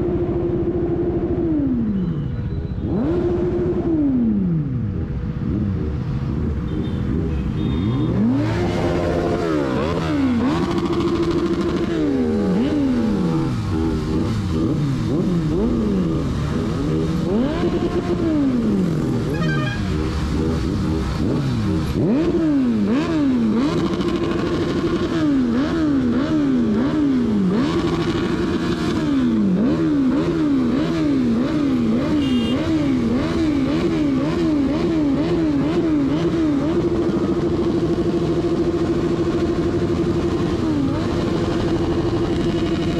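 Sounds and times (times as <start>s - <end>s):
motorcycle engine revving: 2.8s - 42.9s.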